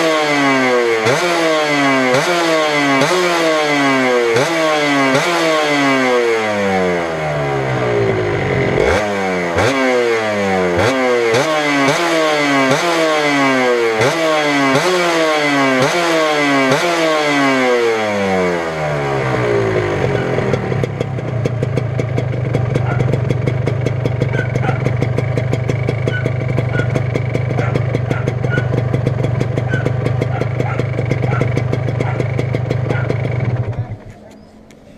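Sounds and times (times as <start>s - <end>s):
motorcycle engine idling: 0.0s - 34.9s
motorcycle engine revving: 0.0s - 34.9s.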